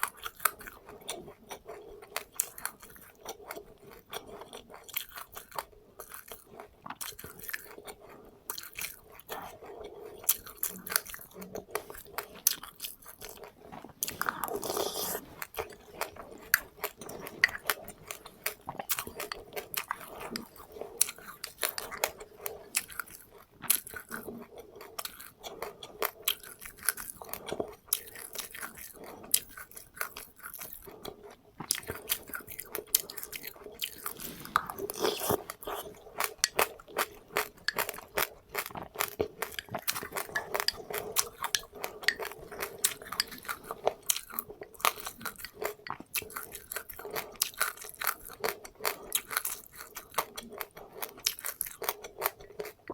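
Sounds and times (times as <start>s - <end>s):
person chewing crunchy seeds: 0.0s - 52.9s.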